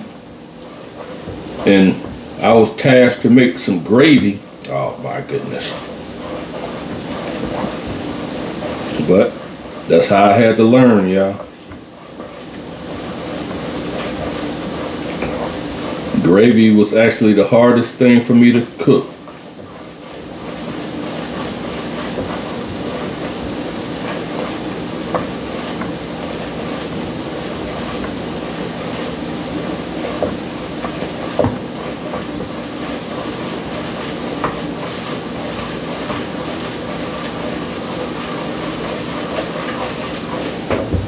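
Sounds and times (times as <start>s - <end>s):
roux sizzling in a pot: 0.0s - 40.9s.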